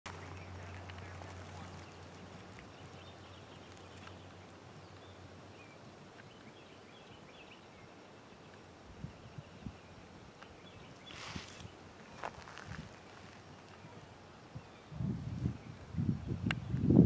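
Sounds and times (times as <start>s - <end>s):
open-air background hiss: 0.1s - 17.0s.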